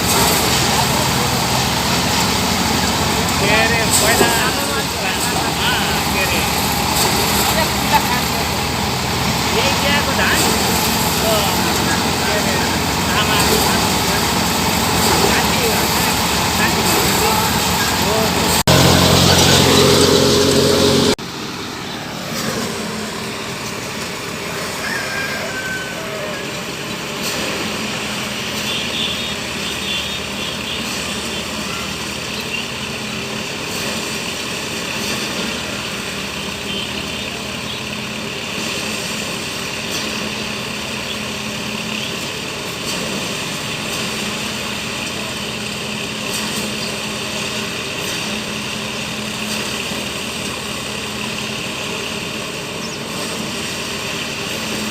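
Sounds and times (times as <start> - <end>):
rice thresher engine running: 0.0 - 54.9.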